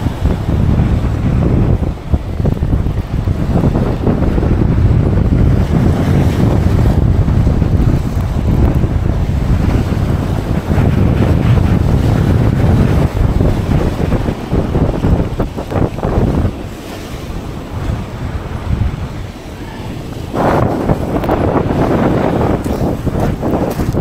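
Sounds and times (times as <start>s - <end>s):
waves breaking against rocks: 0.0s - 24.0s
wind buffeting microphone: 0.0s - 24.0s.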